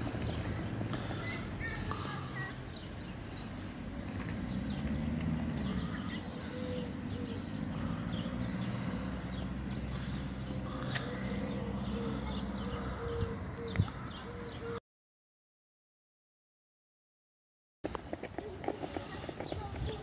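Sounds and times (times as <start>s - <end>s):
low hum of traffic: 0.0s - 14.8s, 17.9s - 20.0s
small birds chirping: 0.0s - 14.8s, 17.9s - 20.0s.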